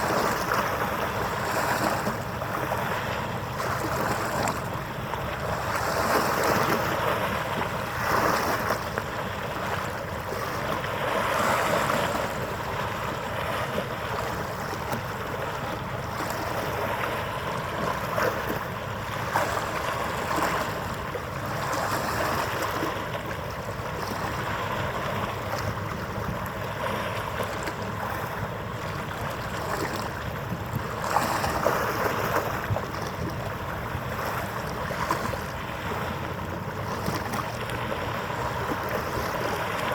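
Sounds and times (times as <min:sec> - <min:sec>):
wind: 0:00.0 - 0:39.9.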